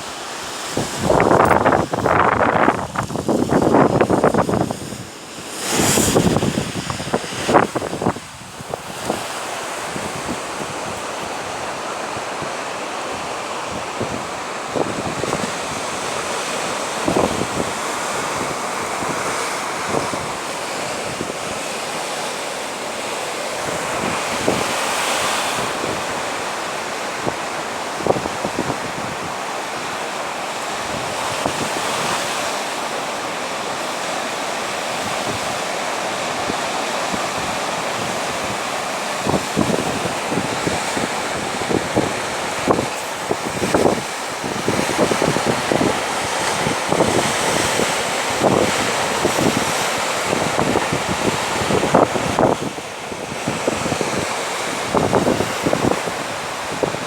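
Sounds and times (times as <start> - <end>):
sea waves washing ashore: 0.0 - 57.0
wind buffeting microphone: 0.0 - 57.0.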